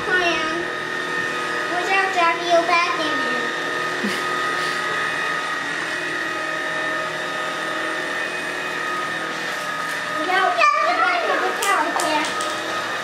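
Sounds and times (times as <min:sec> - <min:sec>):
stick vacuum running: 0:00.0 - 0:13.0.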